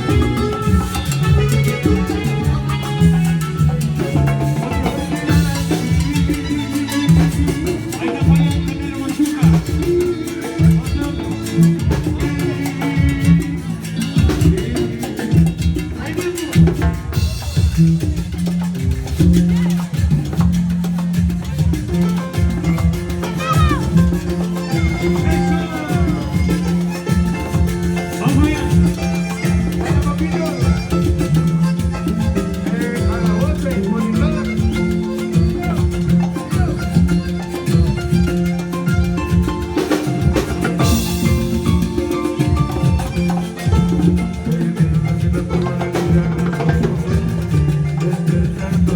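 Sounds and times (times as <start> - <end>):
latin band playing salsa music: 0.0 - 48.9.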